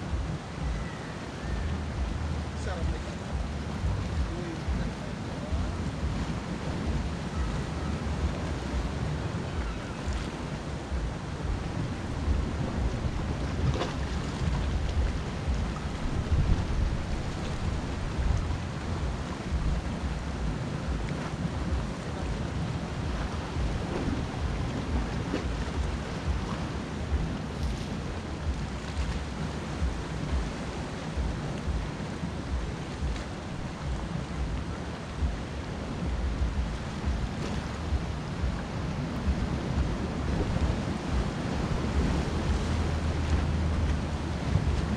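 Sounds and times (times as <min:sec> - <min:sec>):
surf washing against rocks: 0:00.0 - 0:44.9
wind buffeting microphone: 0:00.0 - 0:44.9.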